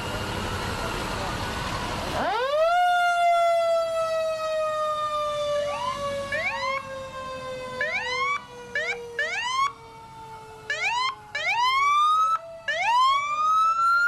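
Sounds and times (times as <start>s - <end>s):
siren winding down: 0.0s - 14.0s
siren whoops: 1.7s - 14.0s.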